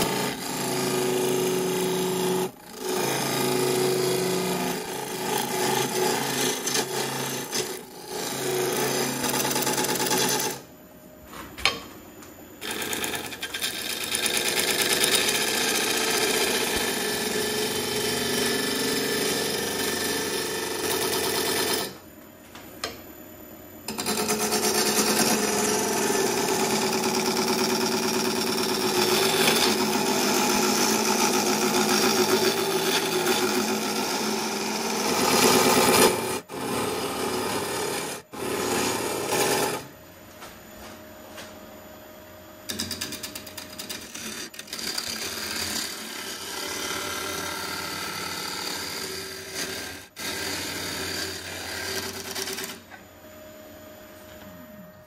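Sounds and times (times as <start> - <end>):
gouge cutting wood on lathe: 0.0 - 10.6, 12.6 - 22.0, 23.9 - 39.9, 43.8 - 52.8
lathe humming: 0.0 - 10.6, 12.6 - 22.0, 23.9 - 40.0, 42.7 - 52.8.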